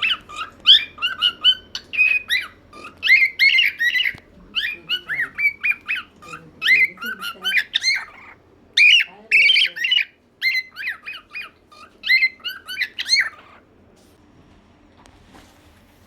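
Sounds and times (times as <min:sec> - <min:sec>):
parrot squawks and chirps: 0:00.0 - 0:13.7.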